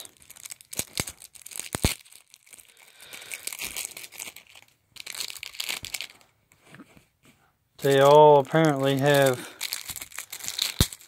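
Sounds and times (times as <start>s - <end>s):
shrink wrap crinkling: 0.0s - 6.3s, 7.8s - 11.0s.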